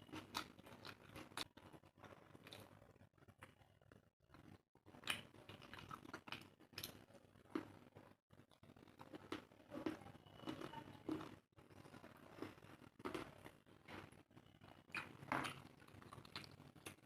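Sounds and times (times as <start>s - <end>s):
person chewing: 0.0s - 3.6s, 4.3s - 14.2s, 14.8s - 17.0s.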